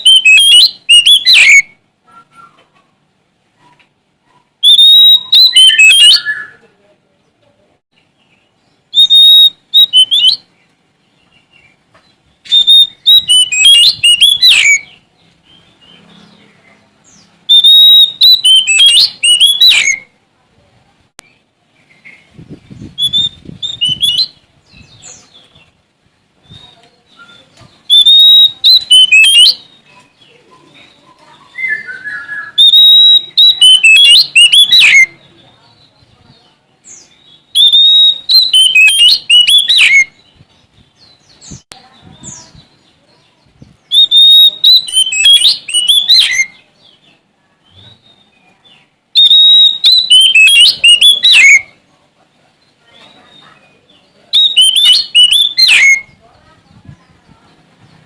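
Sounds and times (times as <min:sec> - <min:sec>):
bird singing: 0:00.0 - 0:03.0, 0:03.6 - 0:06.7, 0:07.9 - 0:20.2, 0:21.2 - 0:25.8, 0:26.4 - 0:52.0, 0:52.6 - 0:58.0.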